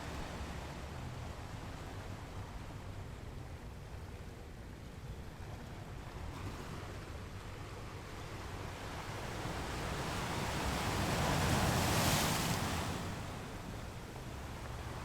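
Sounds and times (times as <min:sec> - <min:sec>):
low rumble of the sea: 0:00.0 - 0:15.0.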